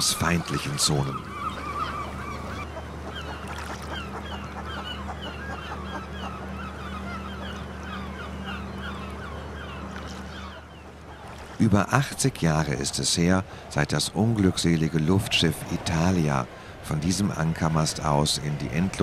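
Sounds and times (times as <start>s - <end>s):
seabirds squawking: 0.0s - 19.0s.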